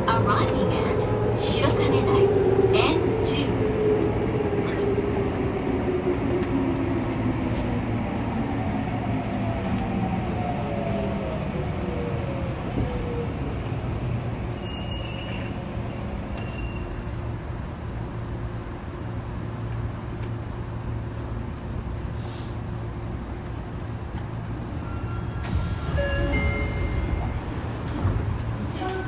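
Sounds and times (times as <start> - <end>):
train equipment hum: 0.0 - 29.0.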